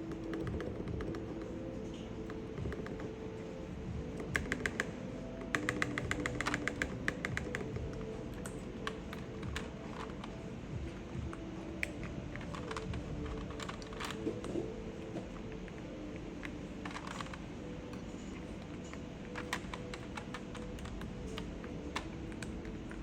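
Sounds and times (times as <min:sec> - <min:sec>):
mechanical keyboard typing: 0:00.0 - 0:23.0.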